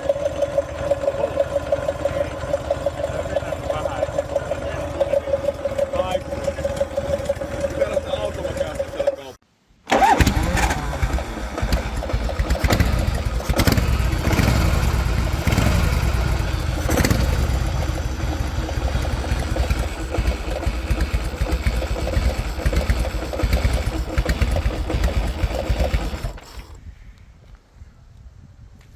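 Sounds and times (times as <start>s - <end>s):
motorcycle engine idling: 0.0s - 27.1s.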